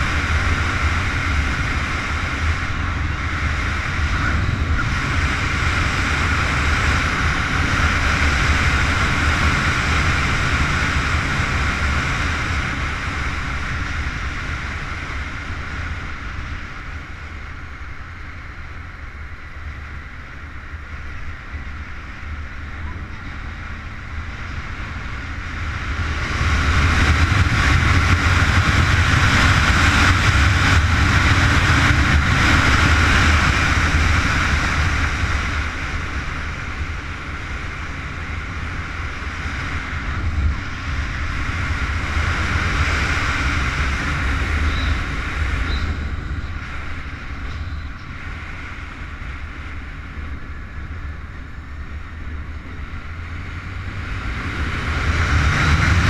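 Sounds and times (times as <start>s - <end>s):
sport bike engine: 0.0s - 56.0s
wind rush: 0.0s - 56.0s.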